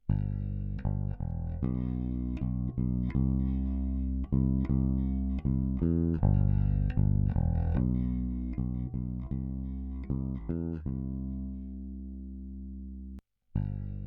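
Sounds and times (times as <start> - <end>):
electric bass guitar notes: 0.0 - 14.0.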